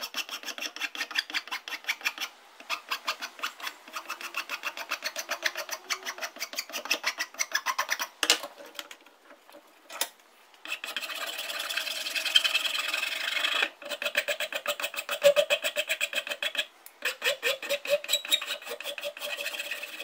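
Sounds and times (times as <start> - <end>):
rapid rubbing strokes: 0.0 - 8.1, 10.7 - 20.0.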